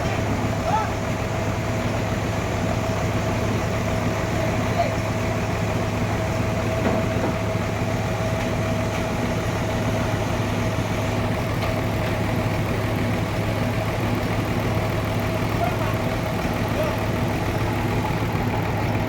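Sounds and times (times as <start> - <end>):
sawmill machinery hum: 0.0 - 19.0.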